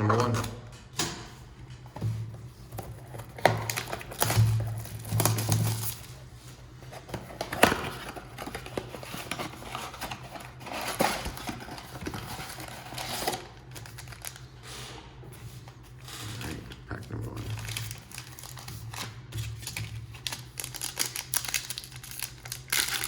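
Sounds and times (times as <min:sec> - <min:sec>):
foil packs rustling: 0:02.5 - 0:14.6, 0:15.4 - 0:23.0.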